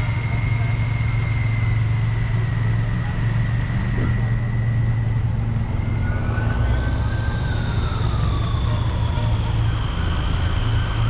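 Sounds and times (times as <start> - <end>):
heavy vehicle engine rumble: 0.0 - 11.0
lower siren winding down: 0.0 - 11.0
rising emergency siren: 0.0 - 11.0.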